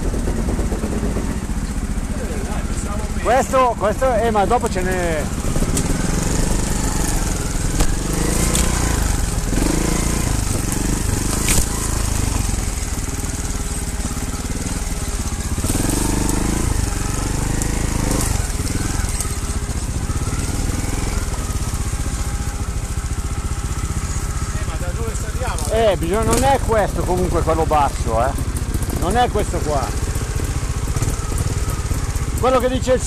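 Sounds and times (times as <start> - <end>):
motorcycle engine with throttle blips: 0.0 - 33.0.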